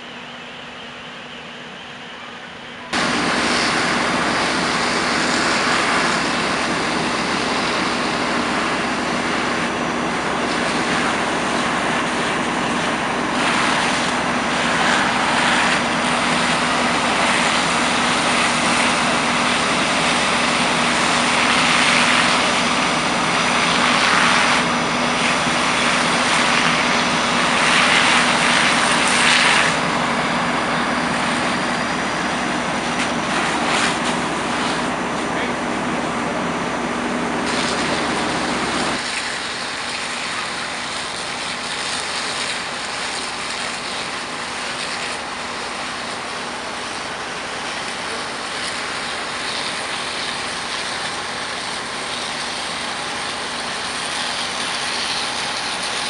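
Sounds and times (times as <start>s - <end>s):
diesel engine running: 0.0s - 56.0s
loud even hiss: 2.9s - 56.0s.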